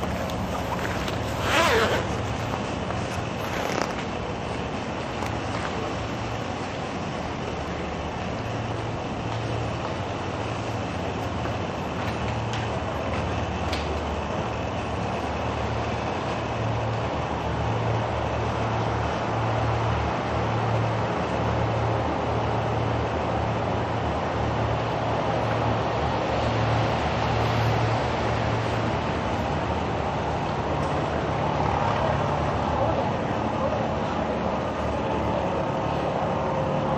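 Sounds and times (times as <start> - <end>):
road traffic rumble: 0.0 - 36.9.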